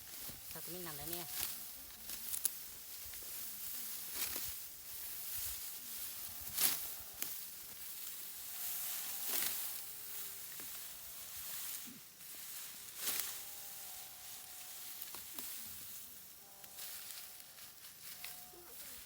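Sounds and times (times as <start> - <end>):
dry stalks rustling: 0.0 - 19.0.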